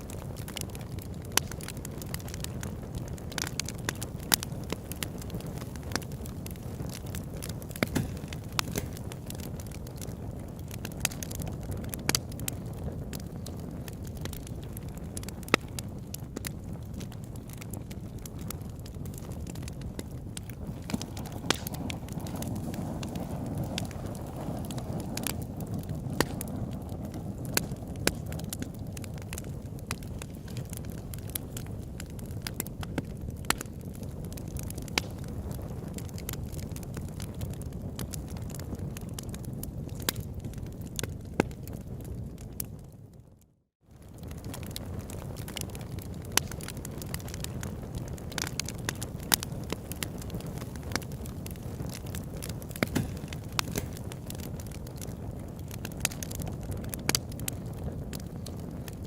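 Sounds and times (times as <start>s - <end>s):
campfire flames rumbling: 0.0s - 59.0s
fire crackling and popping: 0.0s - 59.0s.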